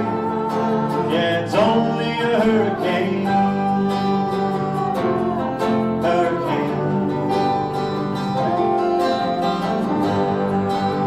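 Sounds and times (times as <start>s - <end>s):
person singing: 0.0s - 11.0s
plucked and strummed strings: 0.0s - 11.0s.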